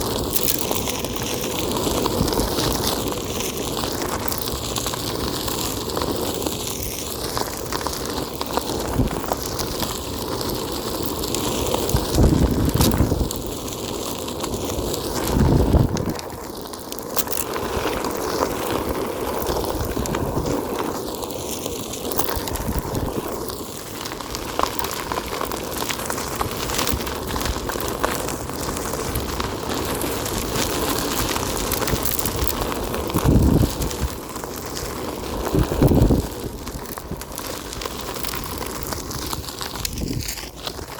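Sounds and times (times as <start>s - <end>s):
tyre rolling over dirt trail: 0.0s - 40.9s.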